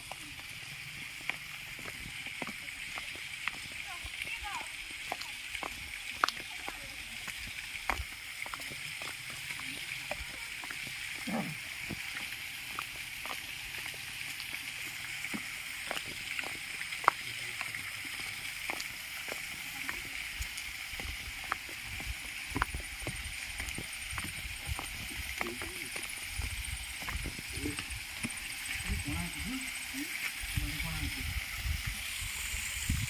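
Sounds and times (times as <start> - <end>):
water rushing at waterfall: 0.0 - 33.0.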